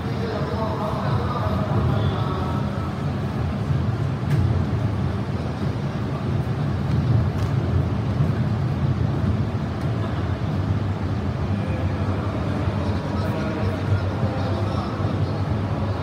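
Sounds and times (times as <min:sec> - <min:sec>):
stationary train rumble and hum: 0:00.0 - 0:16.0.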